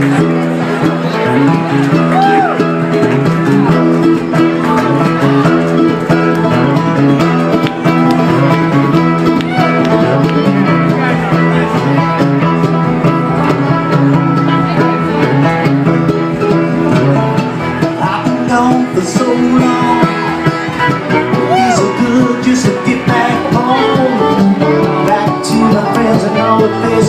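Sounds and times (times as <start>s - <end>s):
bluegrass band playing: 0.0s - 27.0s
picked guitar: 0.0s - 27.0s
steady bass line: 0.0s - 27.0s.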